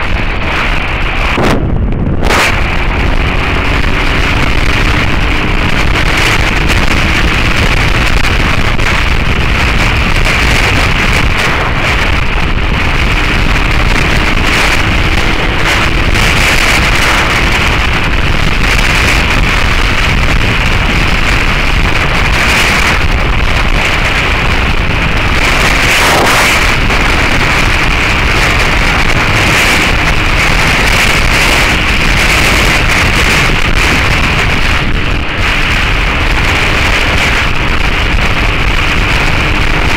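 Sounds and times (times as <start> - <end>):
heavy wind noise on microphone: 0.0 - 39.9
motorbike engine running: 0.0 - 39.9.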